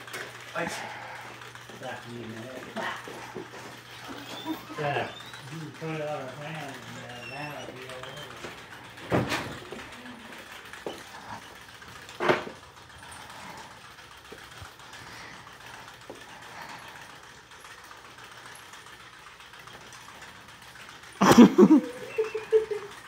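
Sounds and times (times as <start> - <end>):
ceiling fan whirring: 0.0 - 23.0.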